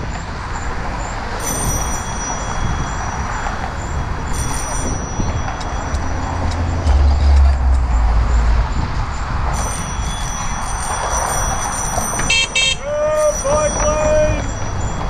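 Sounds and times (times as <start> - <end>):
traffic: 0.0 - 15.0
wind rumble: 0.0 - 15.0.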